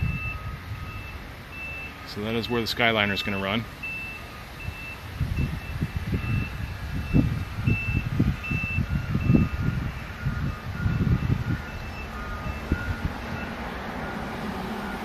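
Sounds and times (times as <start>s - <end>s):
reversing alarm beeping: 0.0s - 15.0s.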